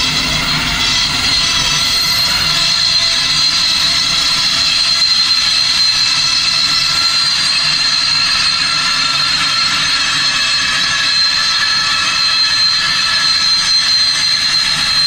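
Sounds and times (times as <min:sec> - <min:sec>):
steam hissing with ringing tone: 0:00.0 - 0:15.0.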